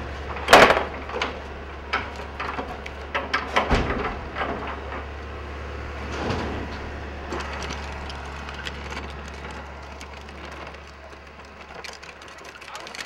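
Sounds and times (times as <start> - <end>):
excavator diesel engine: 0.0 - 13.0
wood cracking and splintering: 0.0 - 13.0
debris knocking: 0.3 - 5.2, 6.0 - 13.0.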